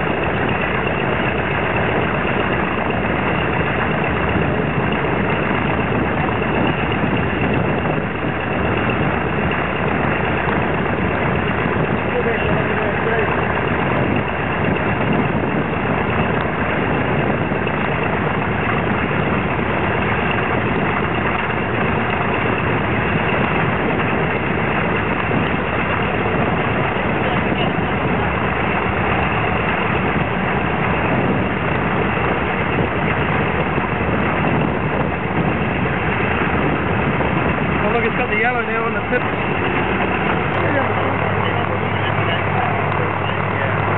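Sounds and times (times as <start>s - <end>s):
radial aircraft engines idling: 0.0s - 43.9s.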